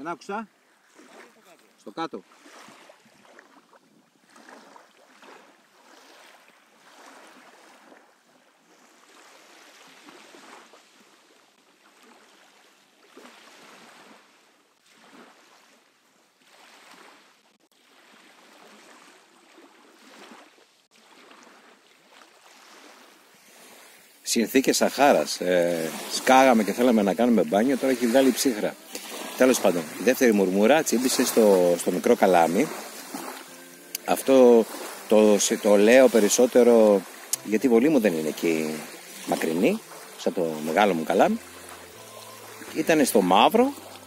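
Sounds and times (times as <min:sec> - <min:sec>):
small waves washing onto sand: 0:00.0 - 0:44.0.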